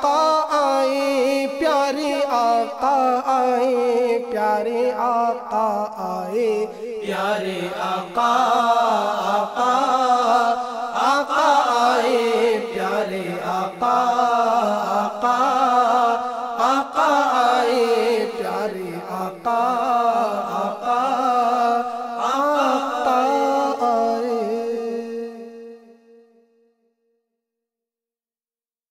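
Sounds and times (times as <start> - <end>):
man chanting slowly: 0.0 - 25.9.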